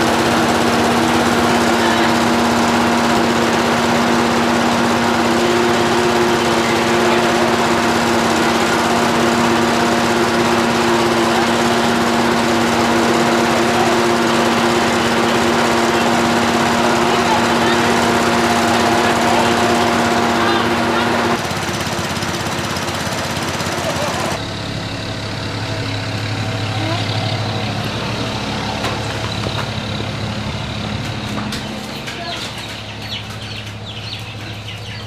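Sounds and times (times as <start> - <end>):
engine running at high speed: 0.0 - 35.0.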